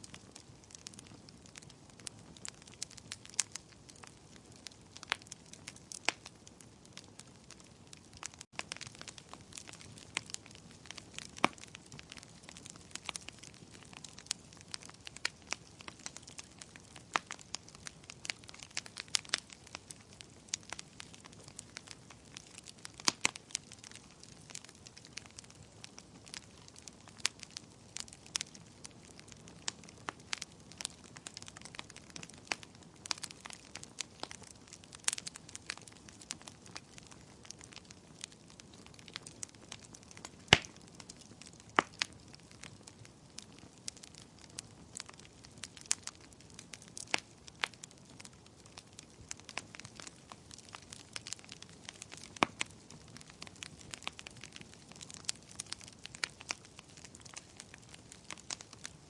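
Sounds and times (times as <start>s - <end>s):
faint hiss of burning: 0.0s - 59.0s
wood fire crackling and popping: 0.0s - 59.0s.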